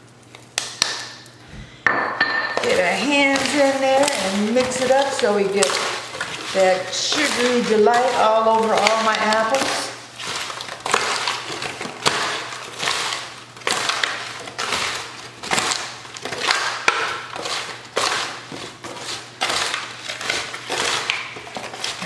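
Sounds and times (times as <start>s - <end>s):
apple slices rustling and scraping: 2.6s - 22.0s
foil pan crinkling: 2.6s - 22.0s.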